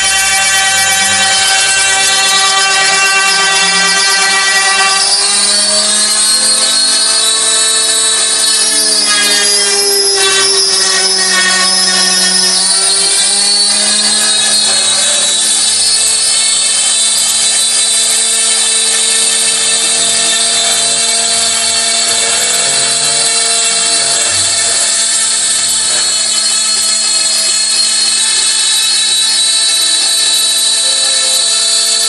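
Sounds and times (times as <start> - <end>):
router spindle high whine: 0.0 - 32.0.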